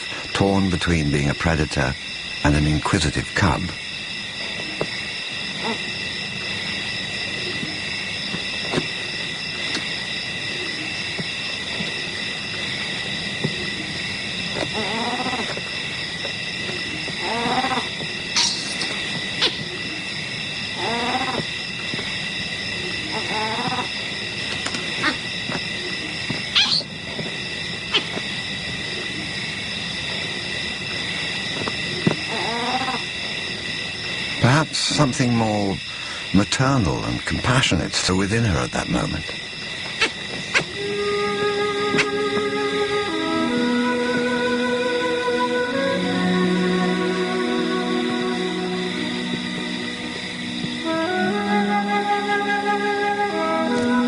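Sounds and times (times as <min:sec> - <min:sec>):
night insects chorus: 0:00.0 - 0:54.0.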